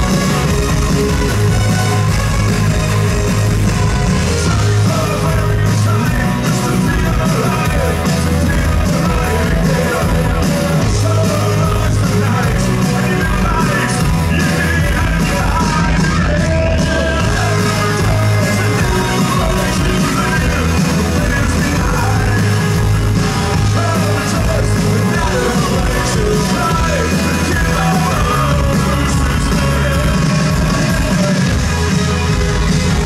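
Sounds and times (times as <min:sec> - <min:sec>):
man singing: 0:00.0 - 0:31.9
heavy bass: 0:00.0 - 0:33.0.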